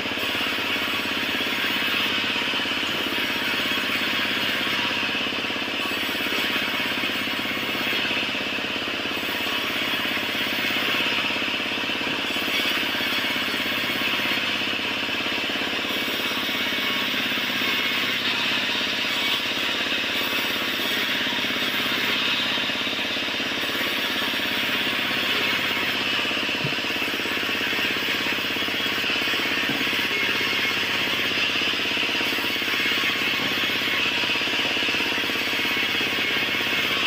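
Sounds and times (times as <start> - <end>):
band saw cutting wood: 0.0 - 37.0.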